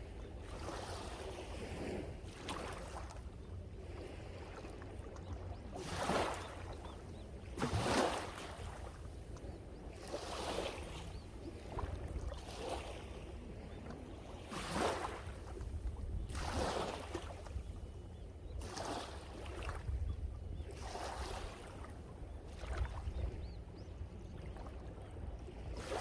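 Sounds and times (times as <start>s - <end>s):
sea waves breaking on shore: 0.0s - 26.0s
wind rumble on microphone: 0.0s - 26.0s.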